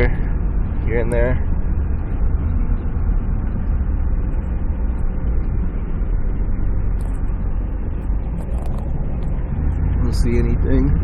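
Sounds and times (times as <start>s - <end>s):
car engine low rumble: 0.0s - 11.0s
road noise: 0.0s - 11.0s.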